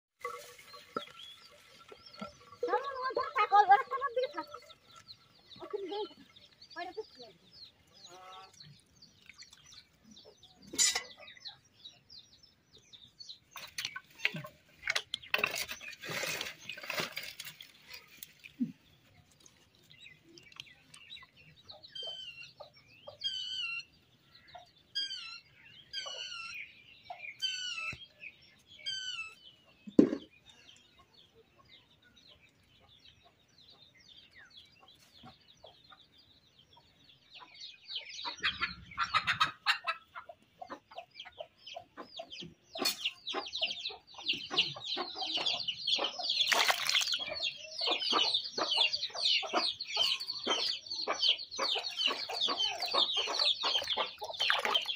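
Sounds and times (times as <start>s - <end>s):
chickens clucking: 0.2s - 12.1s, 13.0s - 24.9s, 29.4s - 54.9s.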